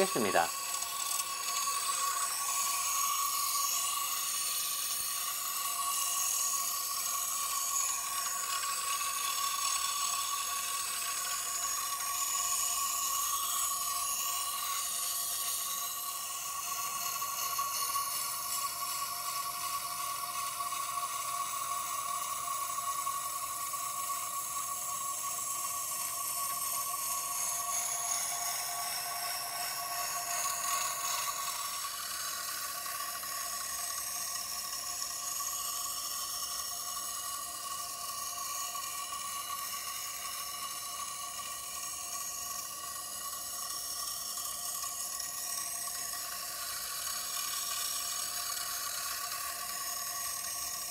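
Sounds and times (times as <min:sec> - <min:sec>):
high machine whine: 0:00.0 - 0:50.9.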